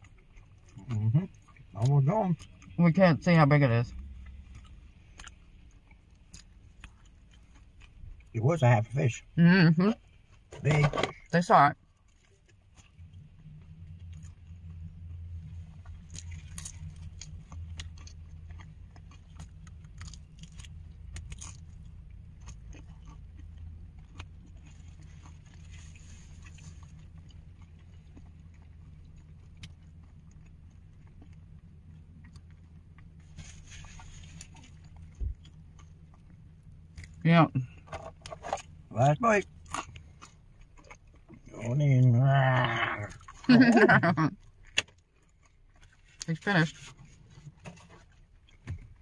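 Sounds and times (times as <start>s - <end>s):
person chewing: 0.0s - 2.8s, 3.9s - 8.4s, 10.0s - 49.0s
low car cabin hum: 0.0s - 49.0s.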